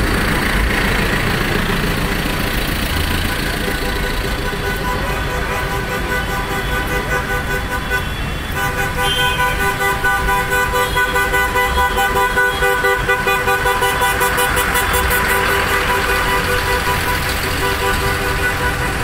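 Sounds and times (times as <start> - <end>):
tractor engines running: 0.0 - 19.0
vehicle horn long blast: 3.4 - 19.0.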